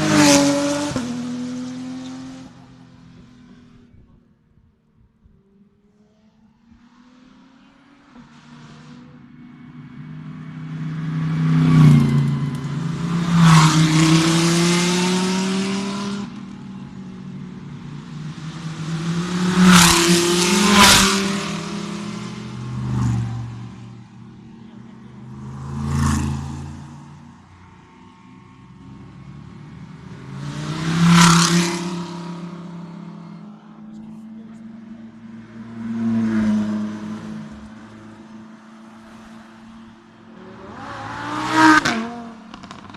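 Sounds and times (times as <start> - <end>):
race cars revving past: 0.0 - 4.1, 5.8 - 42.9.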